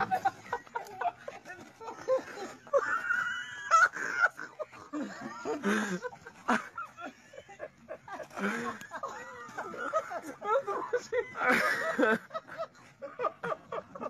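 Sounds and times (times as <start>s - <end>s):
people laughing and shouting: 0.0s - 14.0s.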